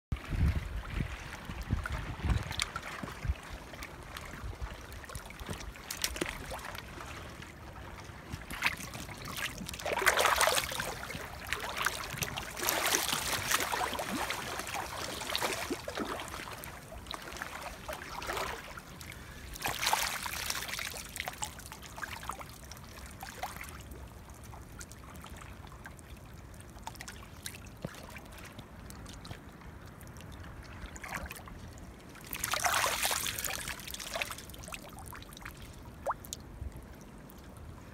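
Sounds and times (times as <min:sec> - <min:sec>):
stream water trickling: 0:00.1 - 0:37.9
water splashing and sloshing: 0:00.1 - 0:37.9.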